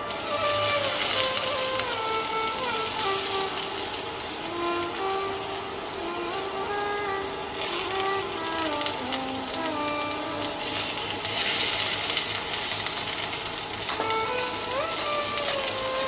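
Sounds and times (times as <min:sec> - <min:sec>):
instrumental string music: 0:00.0 - 0:16.0
onions sizzling in oil: 0:00.0 - 0:16.0.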